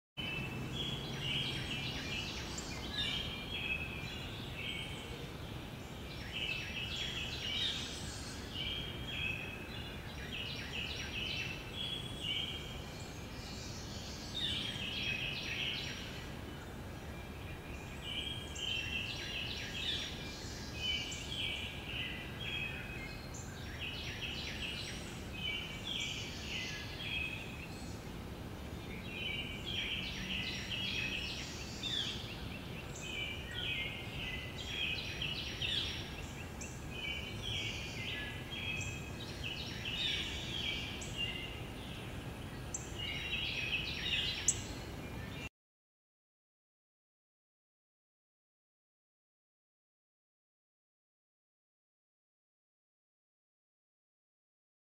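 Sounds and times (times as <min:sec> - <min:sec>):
low background hiss: 0:00.2 - 0:45.5
songbirds singing: 0:00.2 - 0:45.5.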